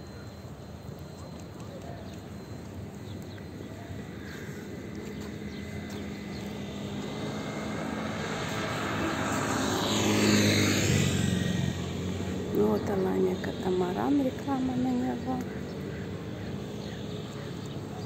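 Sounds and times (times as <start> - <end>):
engine approaching: 1.2 - 18.0.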